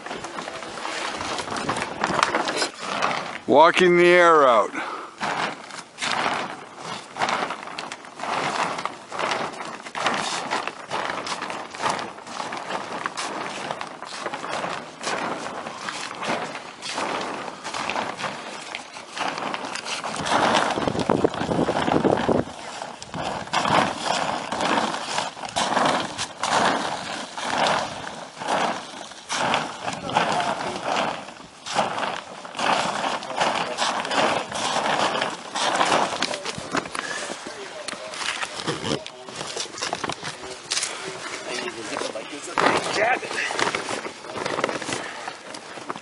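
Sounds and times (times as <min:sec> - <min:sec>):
footsteps on plastic sheeting: 0:00.0 - 0:46.0
plastic sheeting rustling: 0:00.0 - 0:46.0.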